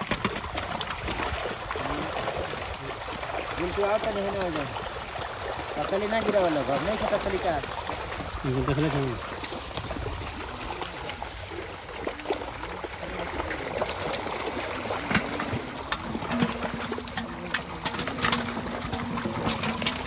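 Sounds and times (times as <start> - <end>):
fish splashing in water: 0.0 - 20.0.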